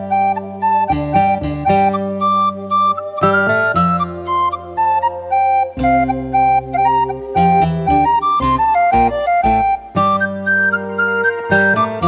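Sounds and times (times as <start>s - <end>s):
bass line: 0.0s - 12.0s
flute-like melody: 0.0s - 12.0s.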